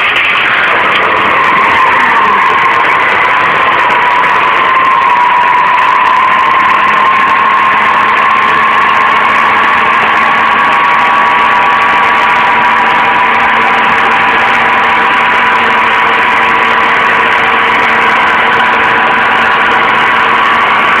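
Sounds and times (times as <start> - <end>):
constant whine: 0.0 - 21.0
vehicle engine running: 0.0 - 21.0.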